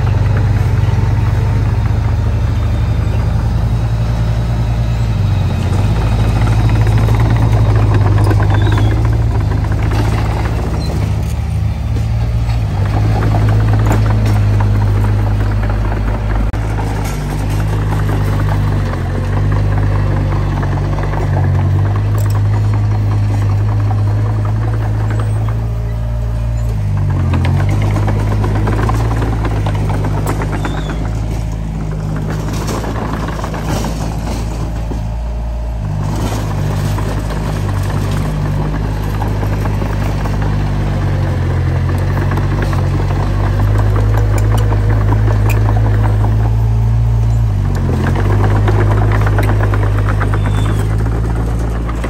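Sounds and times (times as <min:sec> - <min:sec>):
bulldozer diesel engine running: 0:00.0 - 0:52.0
dense rattle: 0:00.0 - 0:52.0.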